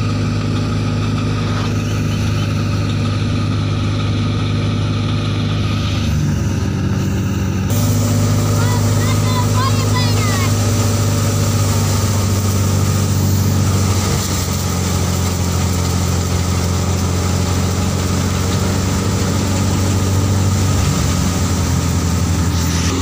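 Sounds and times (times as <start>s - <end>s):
thresher drum whirring: 0.0s - 23.0s
tractor engine humming: 0.0s - 23.0s.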